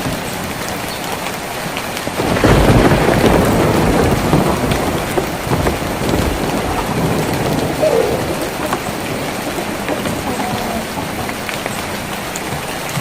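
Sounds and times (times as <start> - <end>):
rain on a tin roof: 0.0 - 13.0.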